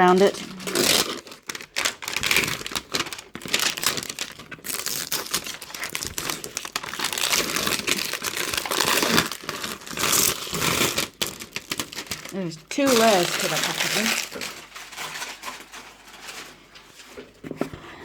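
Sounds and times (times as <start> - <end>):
packaging wrapper crinkling: 0.0 - 17.3.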